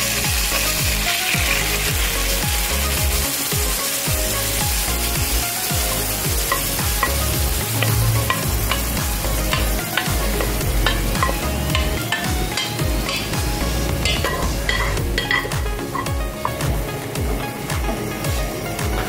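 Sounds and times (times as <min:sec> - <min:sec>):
sauce sizzling in hot pan: 0:00.0 - 0:19.0.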